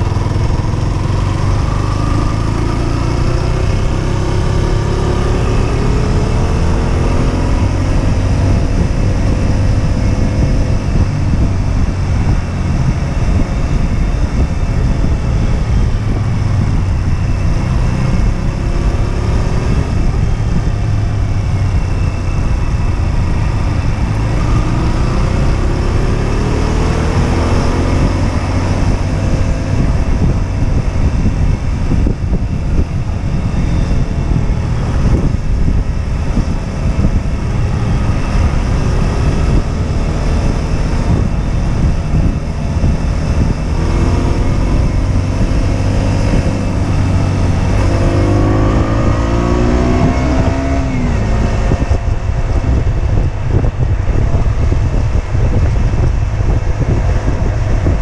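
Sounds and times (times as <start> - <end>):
motorcycle engine revving: 0.0 - 58.0
wind rumble on microphone: 0.0 - 58.0.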